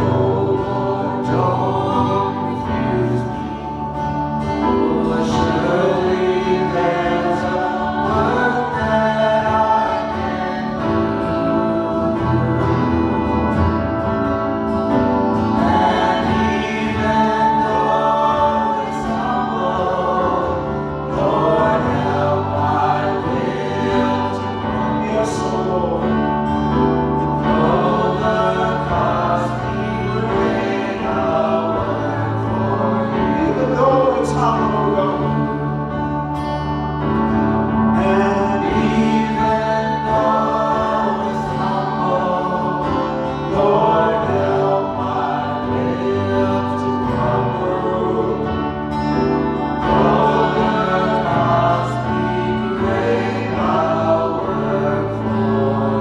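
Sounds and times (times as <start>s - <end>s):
held instrumental chords: 0.0s - 56.0s
voices singing slow gospel song: 0.0s - 56.0s.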